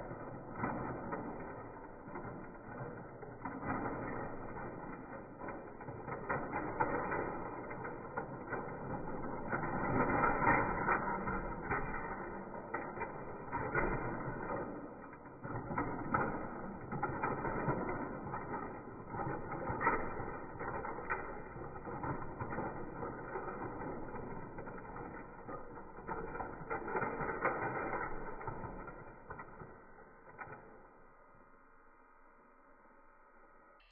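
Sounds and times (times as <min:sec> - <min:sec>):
toy train whirring and rattling: 0:00.0 - 0:31.2.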